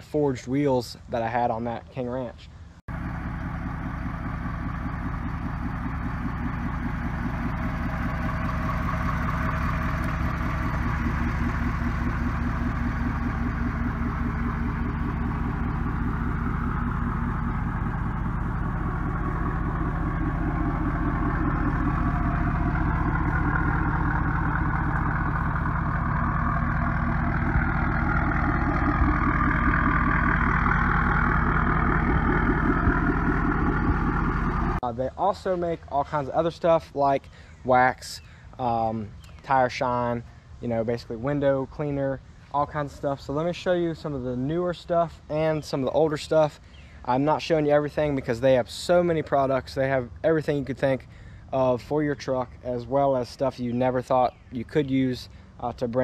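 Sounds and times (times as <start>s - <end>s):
vehicle engine running: 2.9s - 37.5s, 39.1s - 56.0s.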